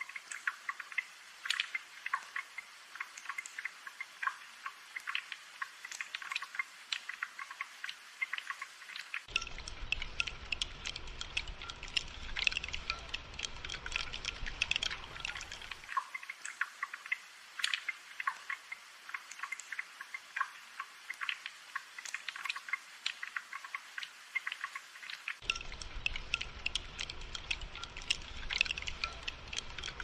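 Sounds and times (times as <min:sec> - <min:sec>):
rain patter: 0:00.0 - 0:30.0.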